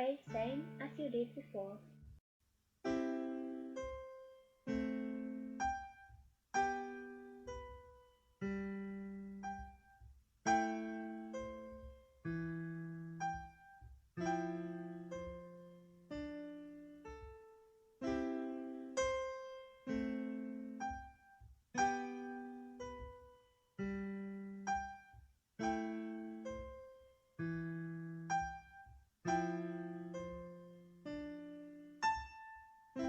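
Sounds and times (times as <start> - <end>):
slow gentle piano music: 0.0 - 2.2, 2.8 - 33.0.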